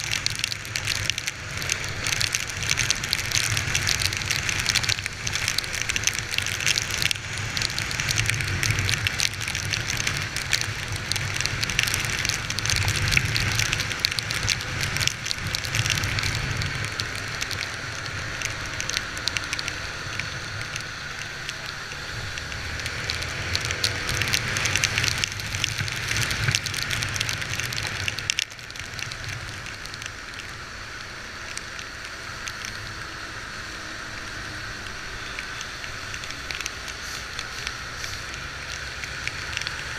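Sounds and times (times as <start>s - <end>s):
heavy rain on microphone: 0.0s - 39.9s.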